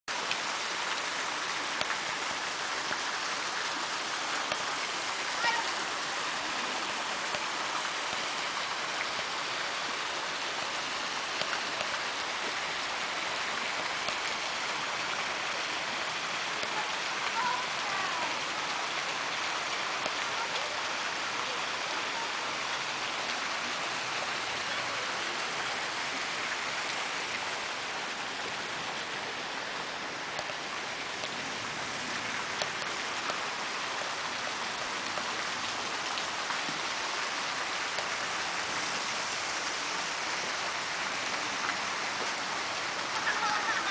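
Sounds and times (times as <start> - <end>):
meltwater running and trickling: 0.1 - 43.9.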